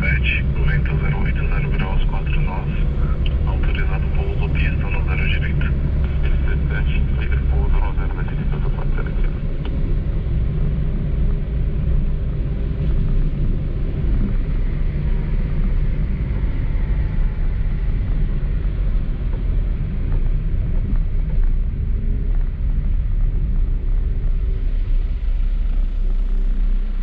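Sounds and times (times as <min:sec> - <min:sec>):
car engine and tyres rumbling: 0:00.0 - 0:27.0.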